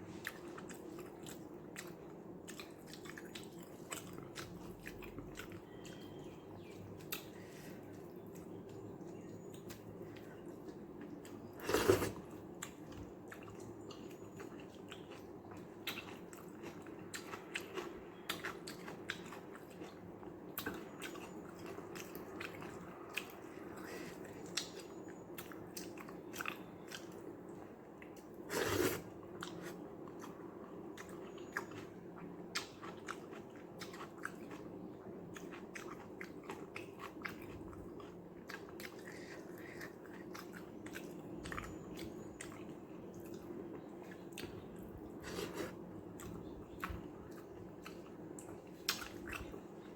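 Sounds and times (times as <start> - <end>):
person chewing food: 0.0 - 49.9
steady low hum: 0.0 - 49.9.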